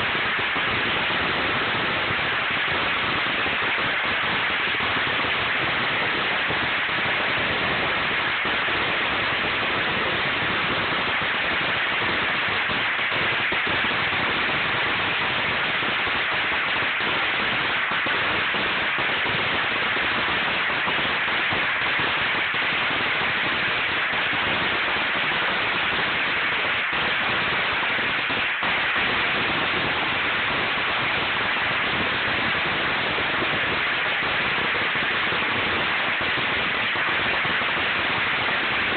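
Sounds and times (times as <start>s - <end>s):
firecracker string crackling: 0.0s - 38.9s.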